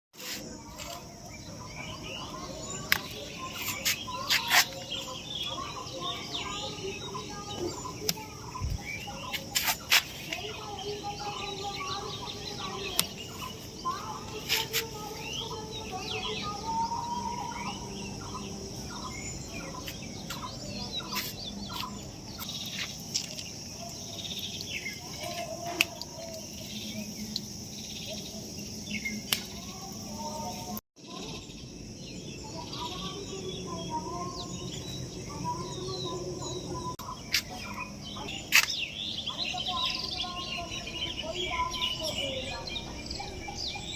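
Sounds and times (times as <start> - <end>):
high insect drone: 0.2 - 43.8
birds chirping: 0.2 - 43.9.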